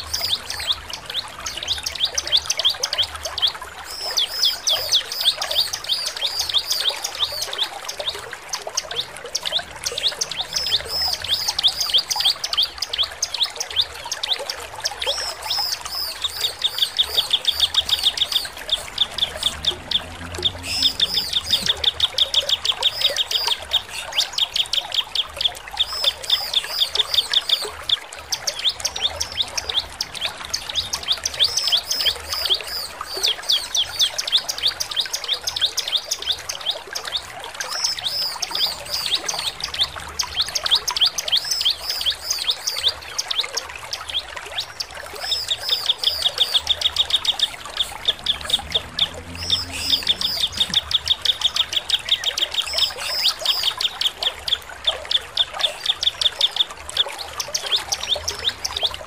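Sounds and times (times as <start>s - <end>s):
bird chirping and trilling: 0.0s - 59.0s.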